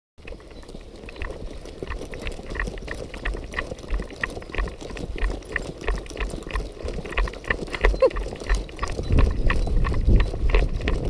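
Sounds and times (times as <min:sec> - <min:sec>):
running footsteps on concrete: 0:00.2 - 0:11.0.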